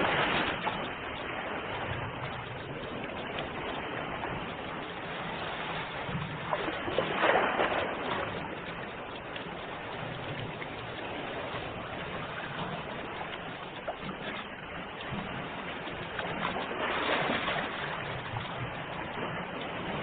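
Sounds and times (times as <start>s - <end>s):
ocean waves washing in: 0.0s - 20.0s.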